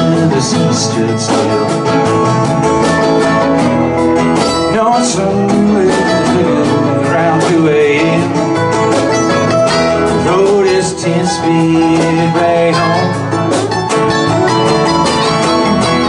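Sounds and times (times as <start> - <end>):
bass guitar: 0.0 - 16.0
electric guitar: 0.0 - 16.0
picked mandolin: 0.0 - 16.0
strummed acoustic guitars: 0.0 - 16.0.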